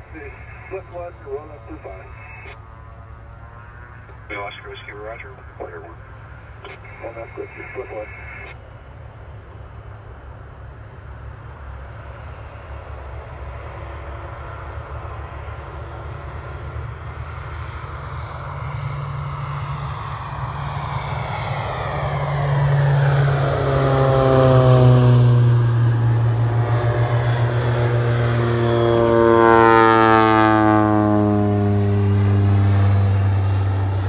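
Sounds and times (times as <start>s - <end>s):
turboprop plane taking off: 0.0s - 34.0s.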